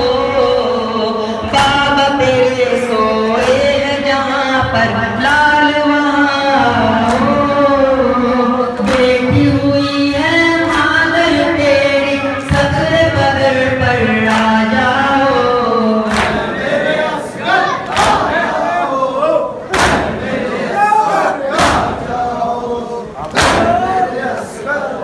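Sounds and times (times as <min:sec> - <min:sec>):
group of men singing: 0:00.0 - 0:25.0.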